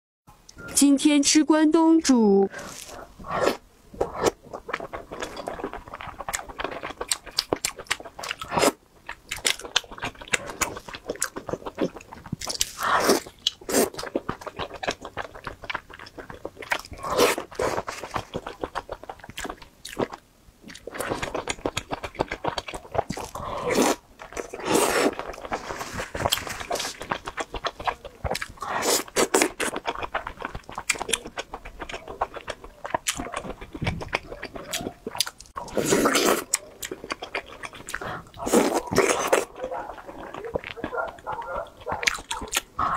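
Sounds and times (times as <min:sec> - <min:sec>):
biting and chewing food: 0:02.5 - 0:42.9.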